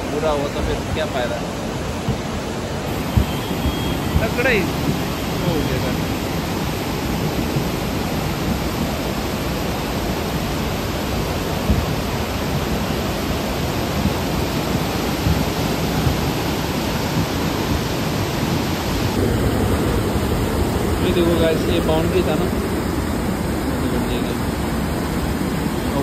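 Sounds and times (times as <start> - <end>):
river torrent rushing over boulders: 0.0 - 26.0.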